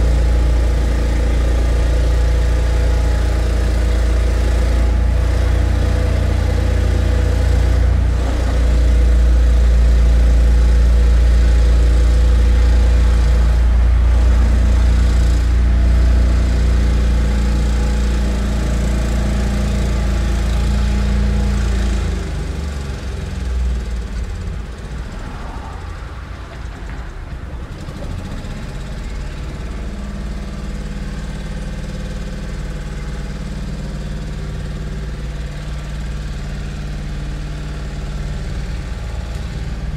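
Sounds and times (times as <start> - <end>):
construction machinery engine drone: 0.0 - 39.9.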